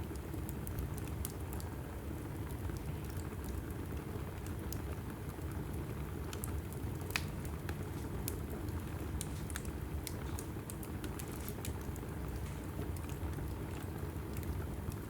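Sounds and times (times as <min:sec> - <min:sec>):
fire flame rumble: 0:00.0 - 0:15.0
wood crackles and pops: 0:00.0 - 0:15.0.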